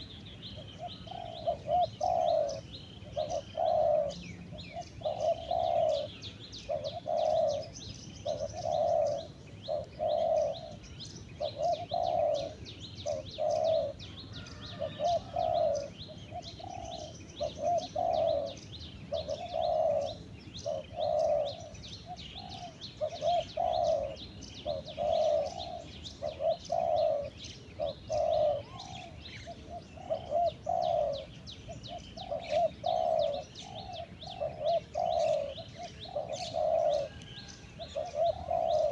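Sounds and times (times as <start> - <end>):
dove cooing: 0.0 - 38.9
small birds chirping: 0.0 - 38.9.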